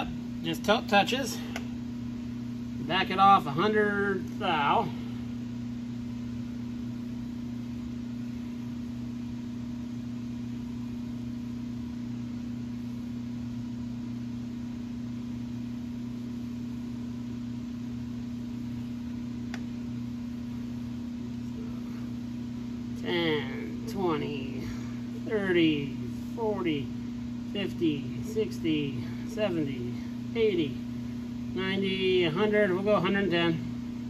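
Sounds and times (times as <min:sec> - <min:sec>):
electrical machine hum: 0:00.0 - 0:34.0.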